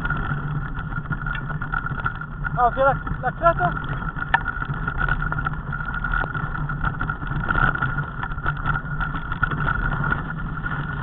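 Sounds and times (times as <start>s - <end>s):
bike tyres rumbling on stony track: 0.0s - 11.0s
knocks and rattles of bike: 0.0s - 11.0s.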